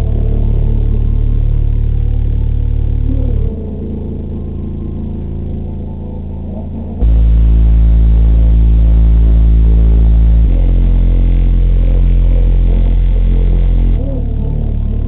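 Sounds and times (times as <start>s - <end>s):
bass-heavy rap from subwoofer: 0.0s - 15.0s.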